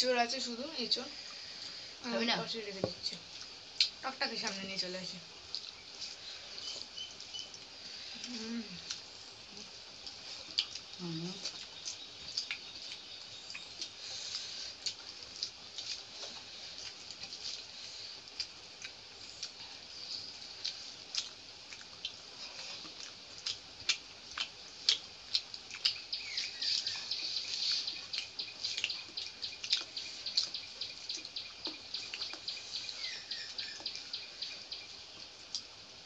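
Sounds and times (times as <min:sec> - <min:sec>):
wet chewing and lip-smacking: 0:03.3 - 0:04.6, 0:05.4 - 0:35.8.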